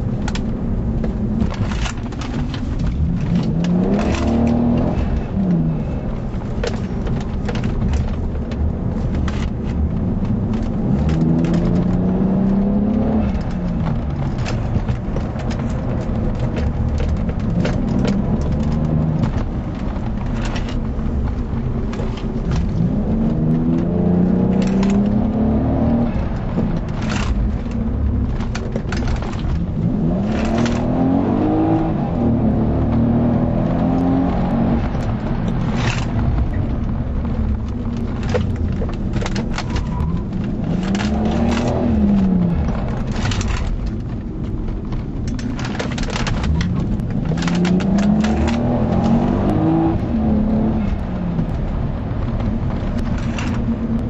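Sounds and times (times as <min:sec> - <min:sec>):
car engine accelerating hard: 0:00.0 - 0:54.0
low rumble: 0:00.0 - 0:54.0
sharp clicks and crackles: 0:00.0 - 0:54.0.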